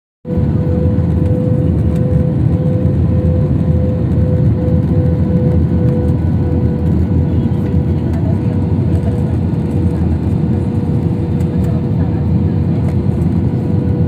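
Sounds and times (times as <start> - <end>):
constant hum: 0.3 - 14.0
jet engine rumble: 0.3 - 14.0.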